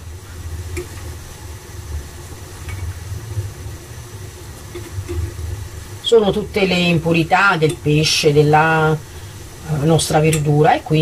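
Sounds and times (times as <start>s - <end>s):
broth boiling in pot: 0.0s - 11.0s.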